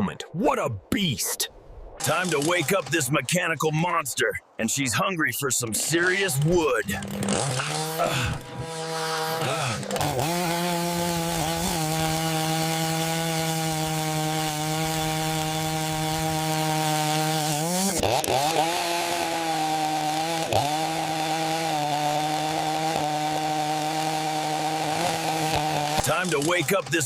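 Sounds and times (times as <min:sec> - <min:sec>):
chainsaw running at high speed: 0:02.0 - 0:02.9, 0:05.8 - 0:27.0.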